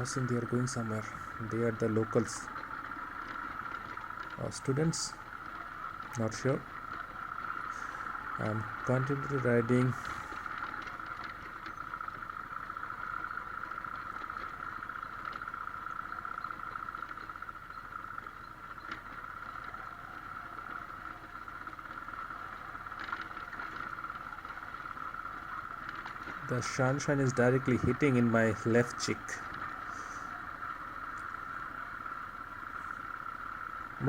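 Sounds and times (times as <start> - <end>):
high hum: 0.0 - 34.0
motorcycle engine: 0.0 - 34.0
wind and road noise: 0.0 - 34.0.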